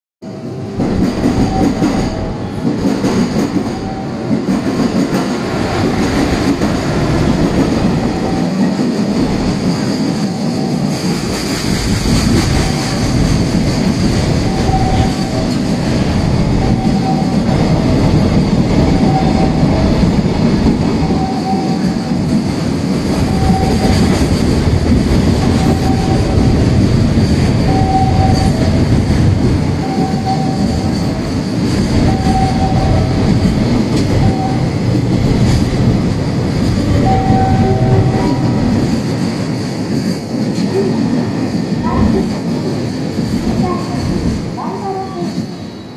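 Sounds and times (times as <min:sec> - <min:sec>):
train wheels rumbling on rail: 0:00.2 - 0:45.9.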